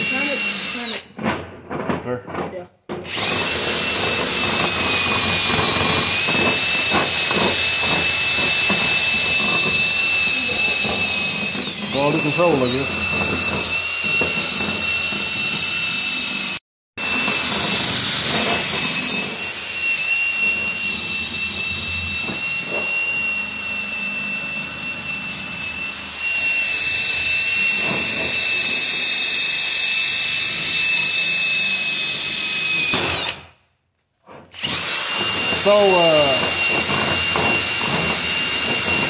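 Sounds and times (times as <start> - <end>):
cordless drill motor whine: 0.0 - 1.1, 3.1 - 33.4, 34.5 - 39.0.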